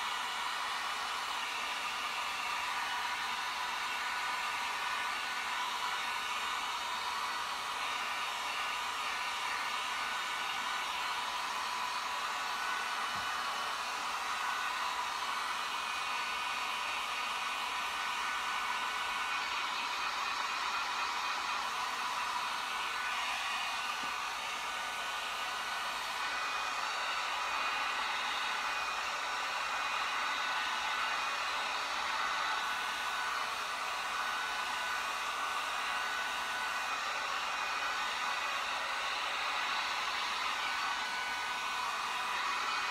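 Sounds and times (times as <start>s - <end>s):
electric blower whooshing: 1.5s - 42.9s.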